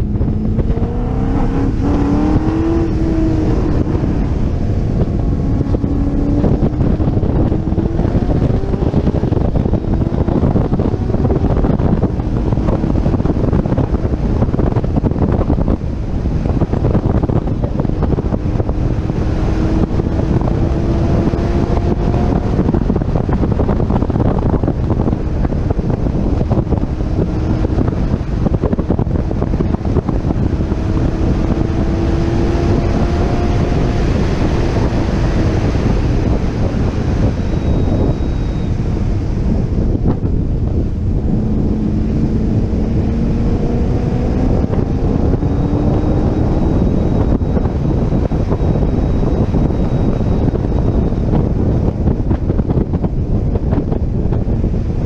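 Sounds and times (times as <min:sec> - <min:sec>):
sports car engine accelerating: 0:00.0 - 0:55.0
wind rumble on microphone: 0:00.0 - 0:55.0.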